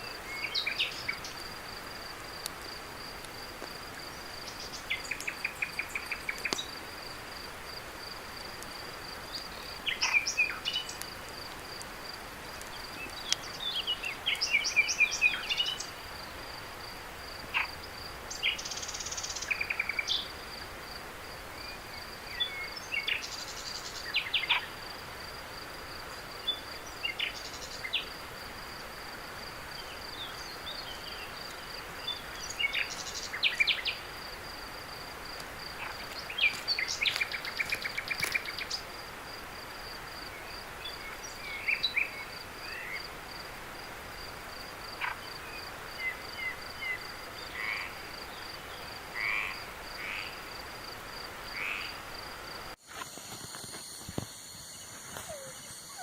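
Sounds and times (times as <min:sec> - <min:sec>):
crickets chirping: 0:00.0 - 0:56.0
soft even hiss: 0:00.0 - 0:56.0.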